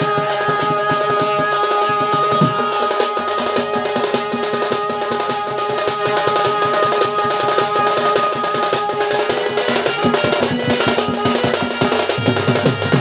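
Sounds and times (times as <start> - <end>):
fast dense folk drumming: 0.0 - 13.0
held melodic line: 0.0 - 13.0.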